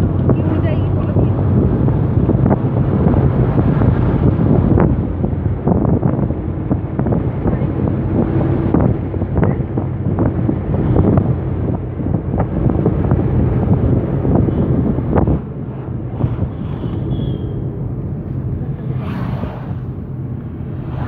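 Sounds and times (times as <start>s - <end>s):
low road rumble: 0.0s - 21.0s
wind buffeting microphone: 0.0s - 21.0s.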